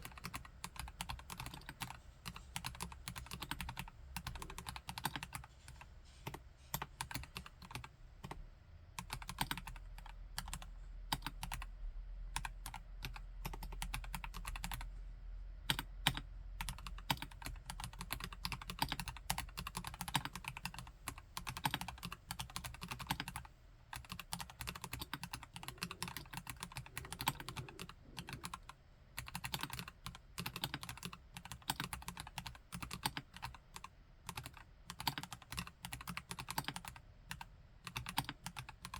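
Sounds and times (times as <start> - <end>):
fast mechanical keyboard typing: 0.0 - 8.4, 9.0 - 11.7, 12.4 - 14.9, 15.7 - 38.9.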